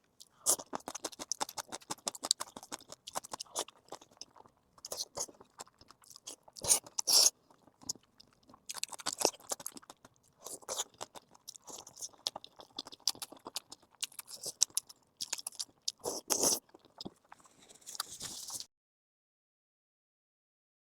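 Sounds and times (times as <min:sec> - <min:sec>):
crunchy chewing of fried food: 0:00.0 - 0:18.7.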